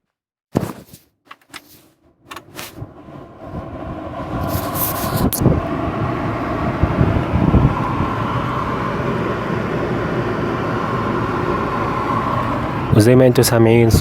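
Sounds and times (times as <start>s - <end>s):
blower fan rushing air: 2.2s - 14.0s.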